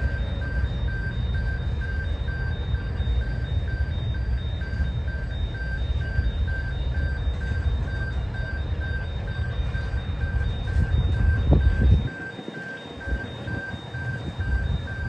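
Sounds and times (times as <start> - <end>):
level crossing warning bell ringing: 0.0 - 15.0
steady low rumble: 0.0 - 15.0.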